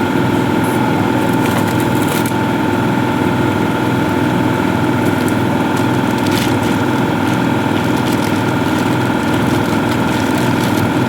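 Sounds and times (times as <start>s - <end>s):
car engine drone: 0.0s - 11.0s
high whine: 0.0s - 11.0s.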